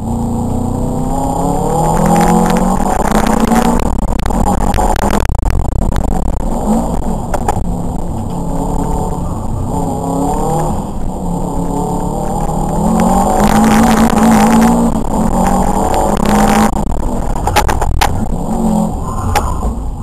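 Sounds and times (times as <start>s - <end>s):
car engine revving: 0.0s - 20.0s
rushing noise: 0.0s - 20.0s.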